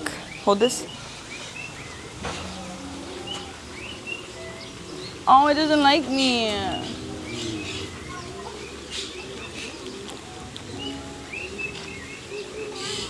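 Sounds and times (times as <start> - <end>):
birds chirping: 0.0 - 13.0
low background murmur: 0.0 - 13.0.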